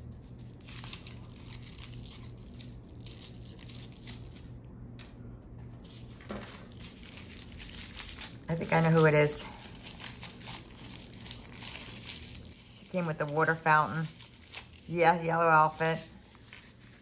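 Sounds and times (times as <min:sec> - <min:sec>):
plastic wrapping crinkling and tearing: 0:00.0 - 0:04.6, 0:05.8 - 0:17.0.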